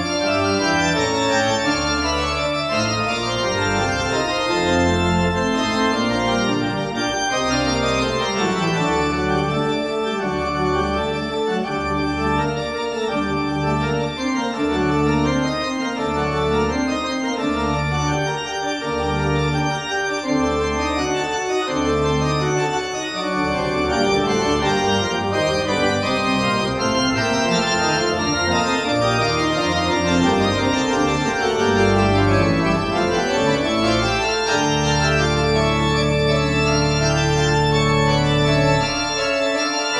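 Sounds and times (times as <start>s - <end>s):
organ pedal bass line: 0.0s - 39.9s
pipe organ chords: 0.0s - 39.9s.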